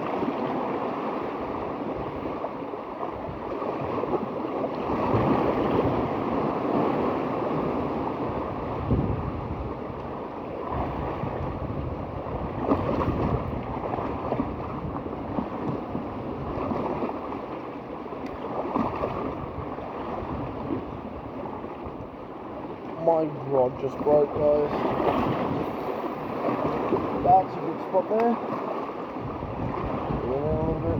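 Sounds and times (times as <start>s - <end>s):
waves washing on shore: 0.0s - 30.9s
wind buffeting microphone: 0.0s - 30.9s.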